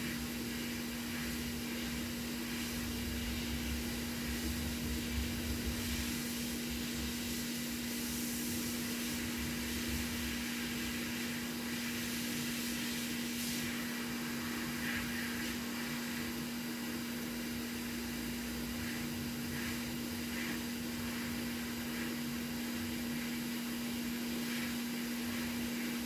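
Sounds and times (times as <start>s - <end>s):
heat gun blowing hot air: 0.0s - 26.0s.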